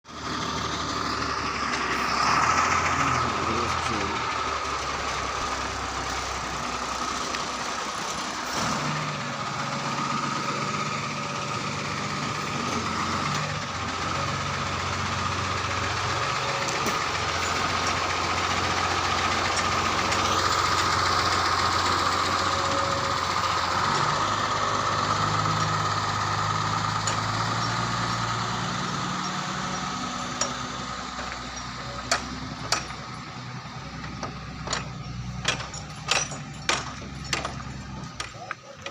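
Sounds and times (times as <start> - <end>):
truck diesel engine running: 0.1 - 38.9.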